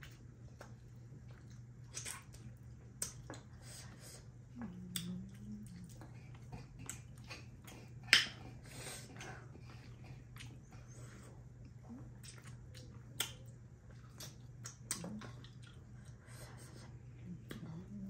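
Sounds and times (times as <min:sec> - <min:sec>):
people eating with mouth noises: 0:00.0 - 0:18.0.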